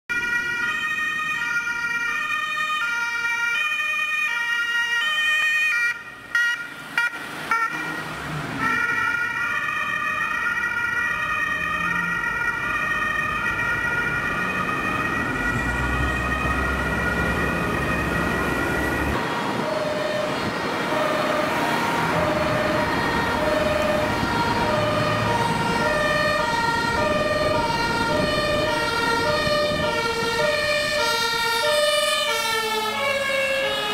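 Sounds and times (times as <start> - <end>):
road traffic: 0.1 - 33.9
two-tone emergency siren: 0.1 - 33.9.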